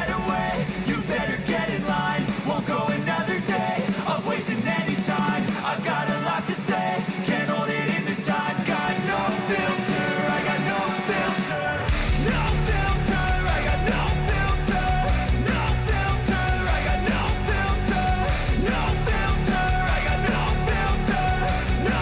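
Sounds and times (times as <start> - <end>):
rock song with steady beat: 0.0 - 22.0.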